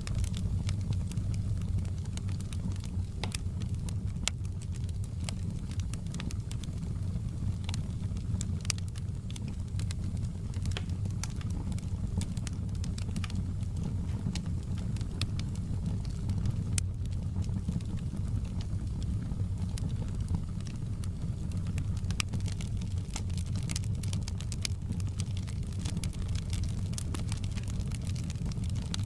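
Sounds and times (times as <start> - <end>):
low rumble of fire: 0.0 - 29.0
wood fire crackling: 0.0 - 29.0.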